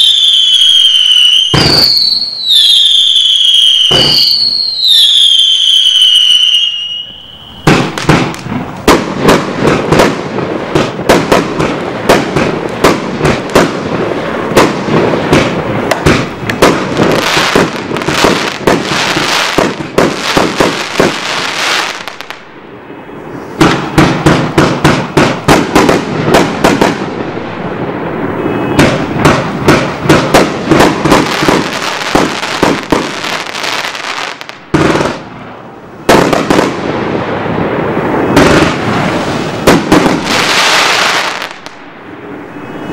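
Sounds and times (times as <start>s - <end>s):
whistling firework shot: 0.0s - 10.2s, 14.5s - 35.2s, 37.3s - 42.9s
firework barrage crackling: 0.0s - 42.9s.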